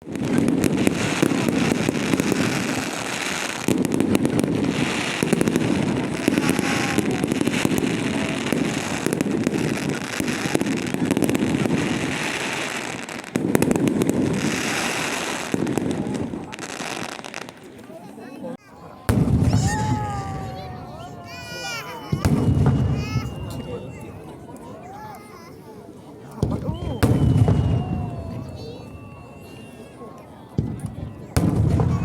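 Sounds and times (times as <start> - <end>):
fireworks bursting and crackling: 0.0 - 18.0, 18.9 - 25.4, 26.3 - 32.0.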